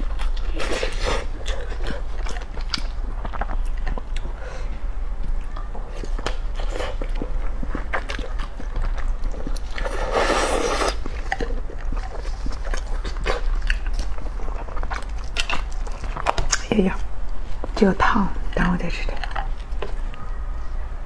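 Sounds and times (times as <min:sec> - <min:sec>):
wet chewing squelches: 0:00.0 - 0:17.8.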